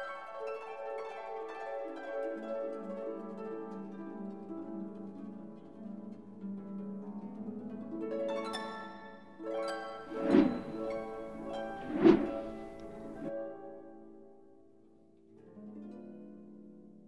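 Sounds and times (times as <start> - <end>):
gentle instrumental music: 0.0 - 17.0.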